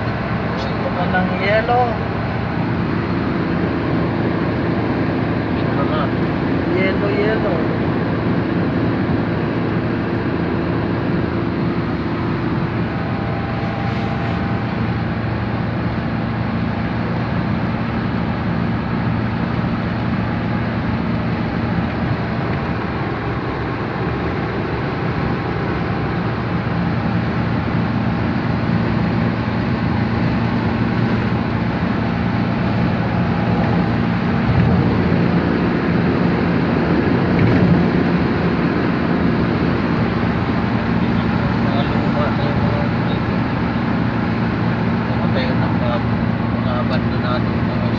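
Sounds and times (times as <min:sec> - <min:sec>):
car engine hum: 0:00.0 - 0:47.9
road noise: 0:00.0 - 0:47.9.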